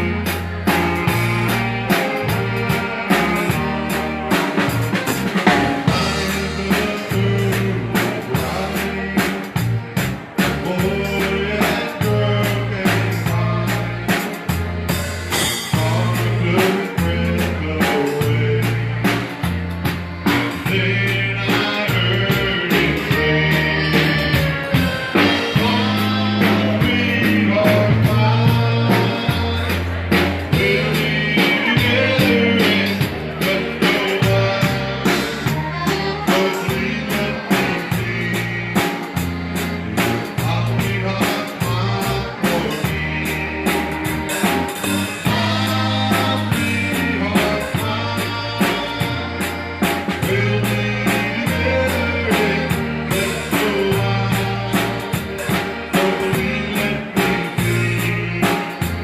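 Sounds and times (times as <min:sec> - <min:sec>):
bass line: 0:00.0 - 0:59.0
live dance band playing: 0:00.0 - 0:59.0.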